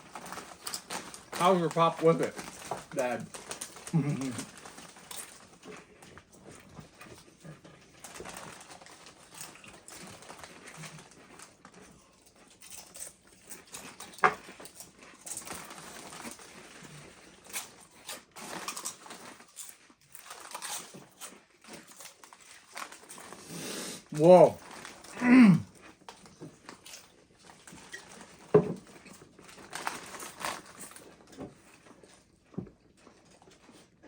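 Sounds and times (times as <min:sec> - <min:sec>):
people crunching tortilla chips: 0:00.0 - 0:32.4.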